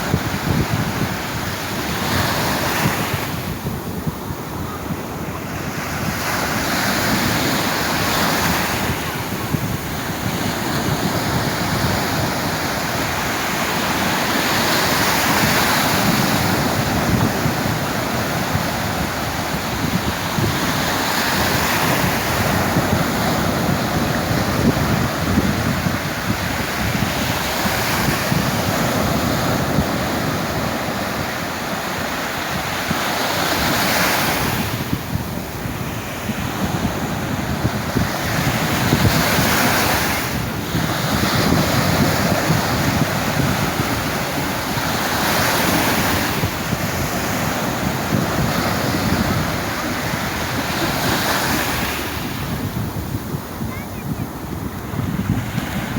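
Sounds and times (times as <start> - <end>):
sea waves breaking on shore: 0.0 - 55.9
wind buffeting microphone: 0.0 - 55.9.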